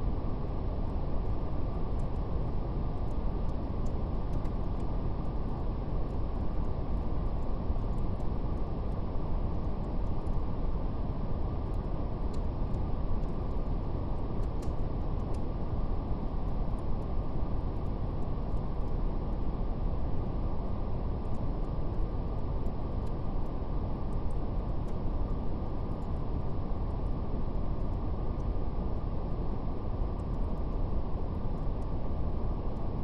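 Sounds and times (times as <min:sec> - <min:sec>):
faint fire crackle: 0:00.0 - 0:33.0.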